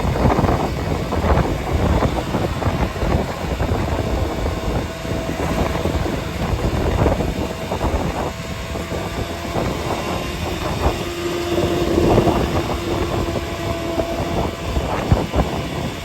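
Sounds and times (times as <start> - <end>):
faint steady whine: 0.0 - 16.0
vehicle road noise: 0.0 - 16.0
wind buffeting microphone: 0.0 - 16.0.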